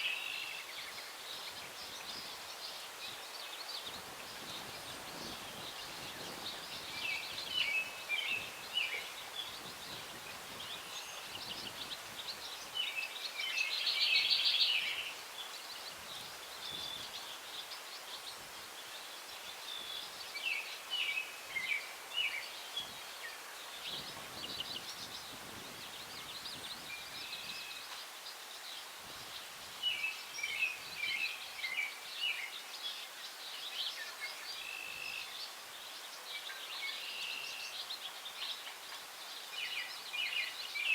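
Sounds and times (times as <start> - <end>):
breeze through trees: 0.0 - 40.9
songbirds twittering: 0.0 - 40.9.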